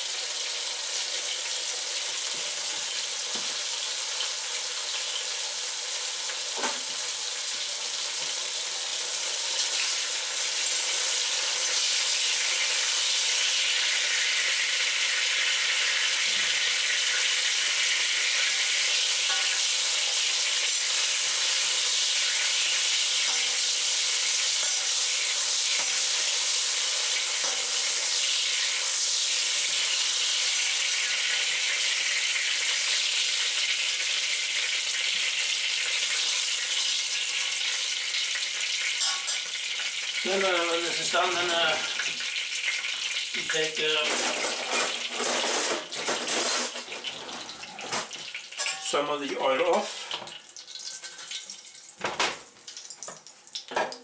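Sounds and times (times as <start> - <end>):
chicken frying in hot oil: 0.0 - 54.0.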